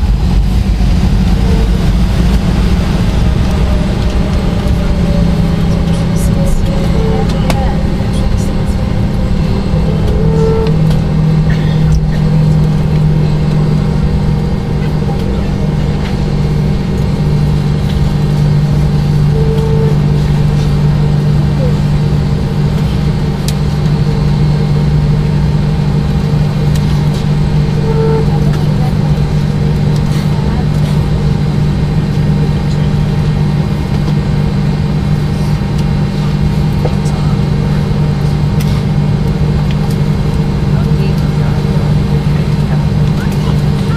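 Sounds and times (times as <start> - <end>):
jet engines droning: 0.0 - 43.9
low hum: 0.0 - 43.9.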